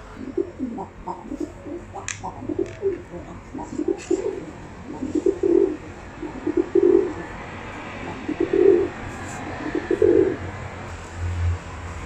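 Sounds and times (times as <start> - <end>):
pigeon cooing: 0.0 - 10.7.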